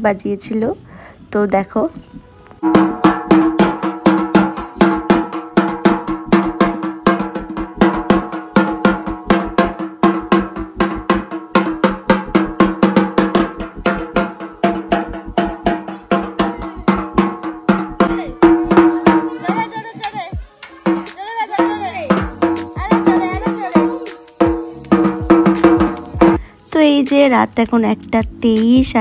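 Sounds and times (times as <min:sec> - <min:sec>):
barrel drum beaten with sticks: 0:02.6 - 0:26.5.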